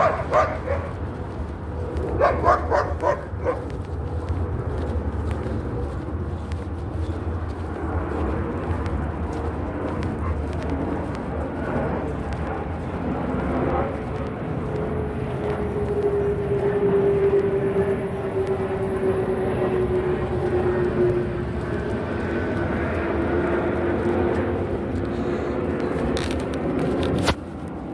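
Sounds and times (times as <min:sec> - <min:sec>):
engine drone: 0:00.0 - 0:27.9.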